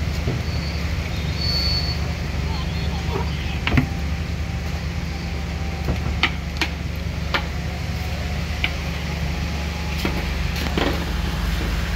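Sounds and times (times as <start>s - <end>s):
street traffic rumble: 0.0s - 11.9s.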